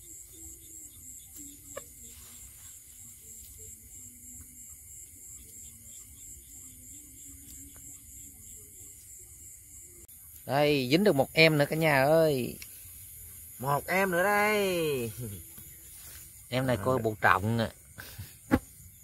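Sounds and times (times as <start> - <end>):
crickets and insects chirping: 0.0 - 19.0.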